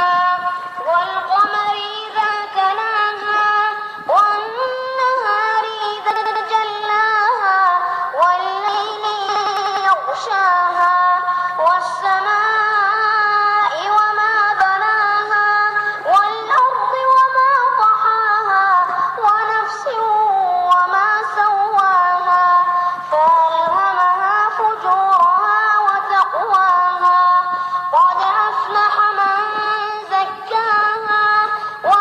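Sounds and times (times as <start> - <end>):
high voice chanting melodically: 0.0 - 32.0.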